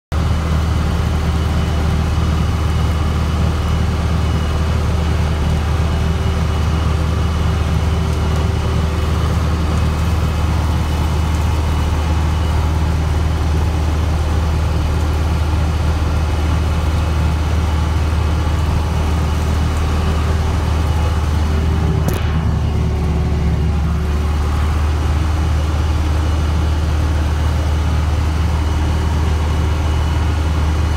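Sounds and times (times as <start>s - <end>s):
diesel engine drone: 0.1s - 30.9s.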